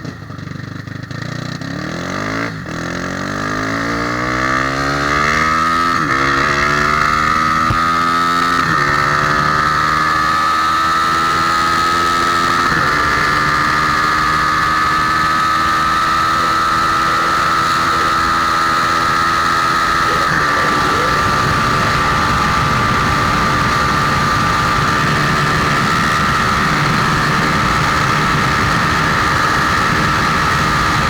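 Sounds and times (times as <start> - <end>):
motorcycle engine running hard: 0.0 - 31.0.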